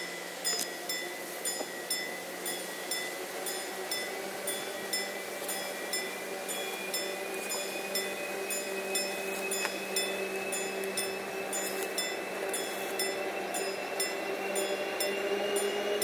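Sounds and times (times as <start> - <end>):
level-crossing warning bell ringing: 0.0 - 16.0.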